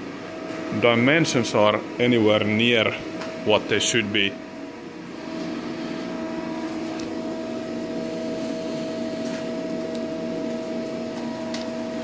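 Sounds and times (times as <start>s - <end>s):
workshop machinery humming: 0.0s - 12.0s.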